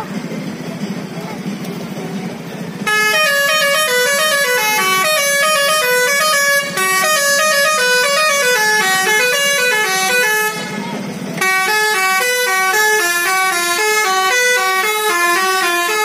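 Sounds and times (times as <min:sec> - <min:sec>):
air horns playing melody: 0:02.8 - 0:16.0.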